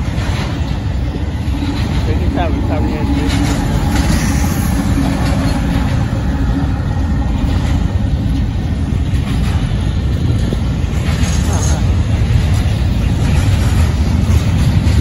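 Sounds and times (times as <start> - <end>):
diesel locomotive engine: 0.0 - 15.0
freight cars rumbling on rails: 0.0 - 15.0.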